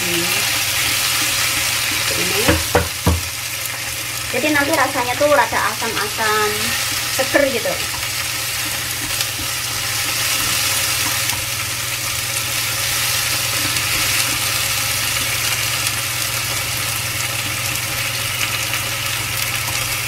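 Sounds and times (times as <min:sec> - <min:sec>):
food sizzling in a frying pan: 0:00.0 - 0:20.0
low mechanical hum: 0:00.0 - 0:20.0.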